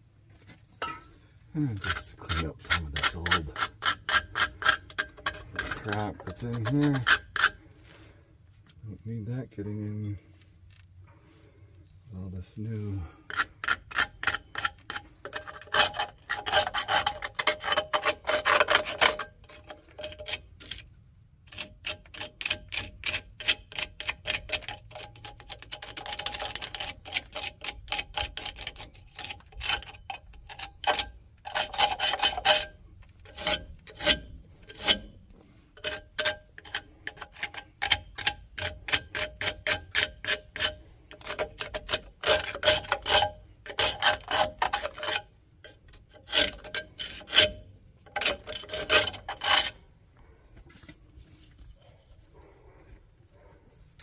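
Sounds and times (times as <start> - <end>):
hand tool scraping metal: 0.8 - 8.0, 12.6 - 49.9.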